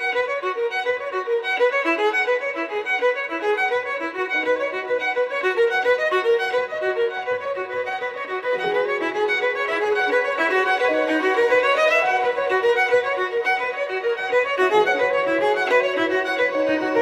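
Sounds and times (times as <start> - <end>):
violin music: 0.0 - 17.0.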